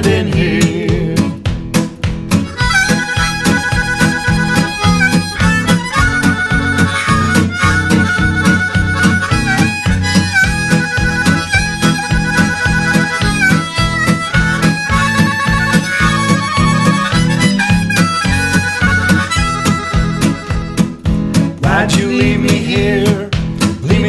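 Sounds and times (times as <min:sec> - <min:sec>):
steady guitar rhythm: 0:00.0 - 0:24.0
harmonica bending notes: 0:02.2 - 0:21.9.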